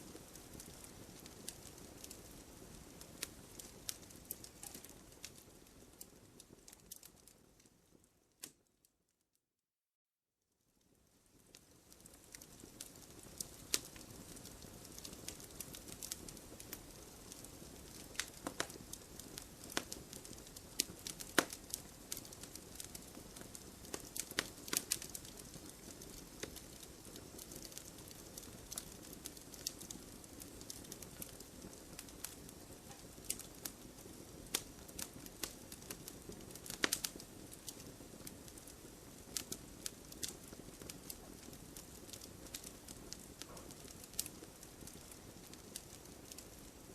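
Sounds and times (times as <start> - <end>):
firewood burning: 0.0 - 8.6, 10.8 - 46.9
wood crackling and popping: 0.0 - 8.7, 11.3 - 46.9.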